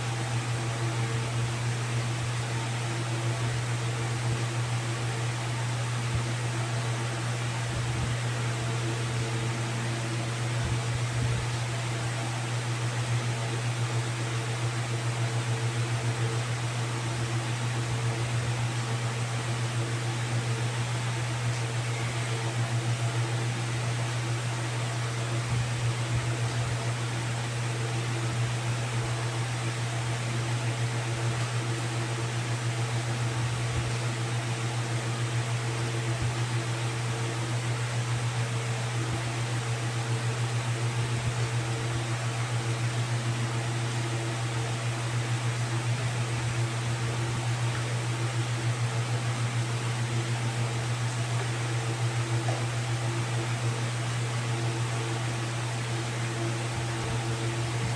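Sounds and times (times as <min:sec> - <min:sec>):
pulsing machine hum: 0:00.0 - 0:57.9.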